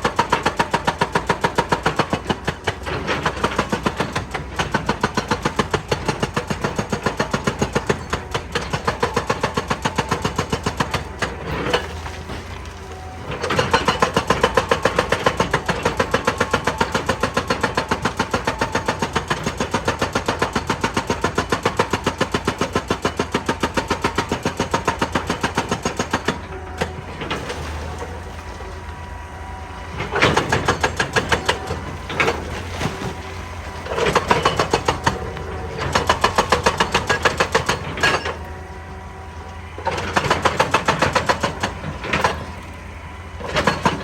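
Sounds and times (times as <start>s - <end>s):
excavator engine running: 0.0s - 44.0s
hydraulic breaker hammering rock: 0.0s - 44.0s.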